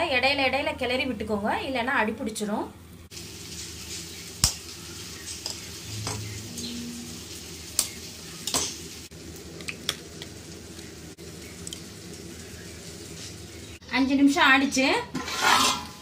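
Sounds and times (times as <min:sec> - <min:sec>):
frying sizzle: 0:02.8 - 0:16.0.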